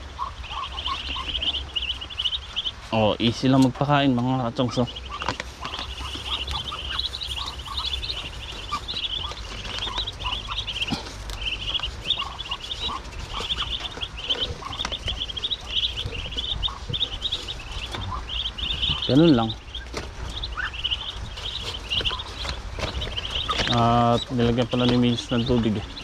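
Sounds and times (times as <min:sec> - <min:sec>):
baby fowl peeping: 0:00.0 - 0:26.0
lower bird calls: 0:00.0 - 0:26.0.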